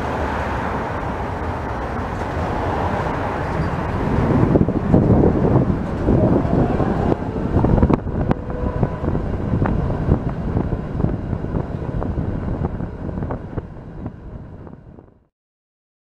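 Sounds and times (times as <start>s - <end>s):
tram wheels rumbling on rail: 0.0s - 15.2s
wind on microphone: 0.8s - 15.3s.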